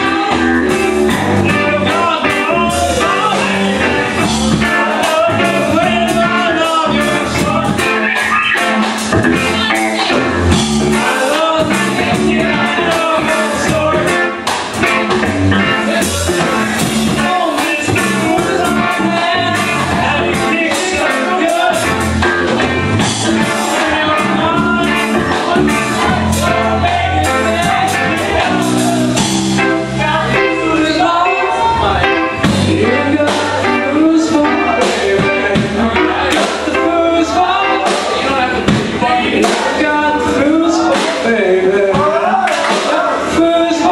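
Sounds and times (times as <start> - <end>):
steady drum beat: 0.0 - 31.2, 31.9 - 43.8
person singing: 0.0 - 43.9
rock music: 0.0 - 43.9.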